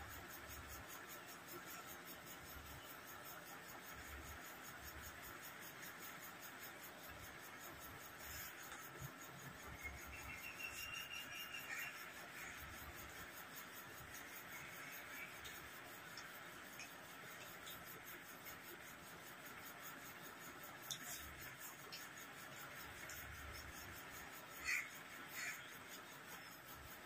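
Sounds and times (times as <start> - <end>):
room hiss: 0.0 - 27.0.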